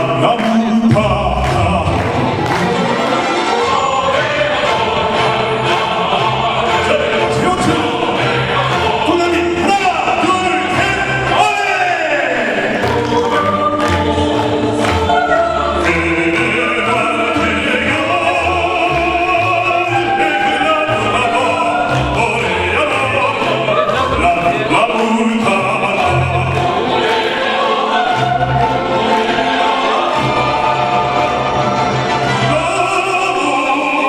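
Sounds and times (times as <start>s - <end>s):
instrumental accompaniment: 0.0s - 11.8s, 12.4s - 33.0s
operatic voices singing: 0.0s - 34.0s.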